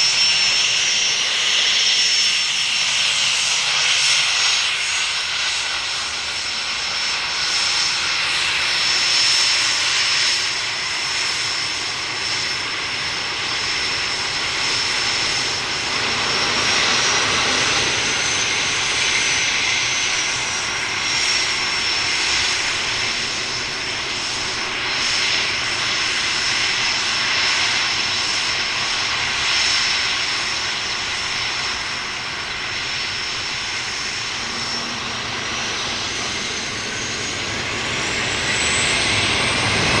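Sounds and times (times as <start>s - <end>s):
high jet whine: 0.0s - 40.0s
jet engine rush: 0.0s - 40.0s.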